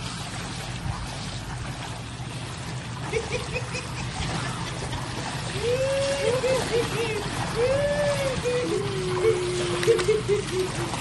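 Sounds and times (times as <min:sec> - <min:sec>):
pool water splashing: 0:00.0 - 0:11.0
steady low hum: 0:00.0 - 0:11.0.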